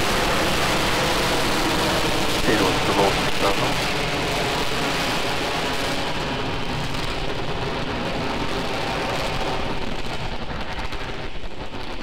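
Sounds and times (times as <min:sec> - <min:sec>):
rocket exhaust crackling: 0:00.0 - 0:12.0.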